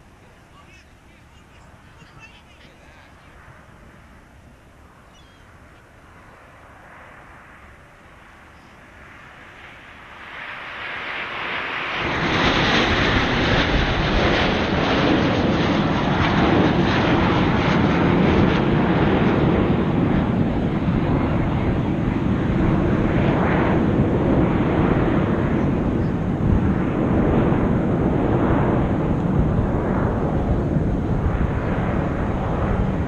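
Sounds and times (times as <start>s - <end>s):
jet roar overhead: 0.0s - 33.0s.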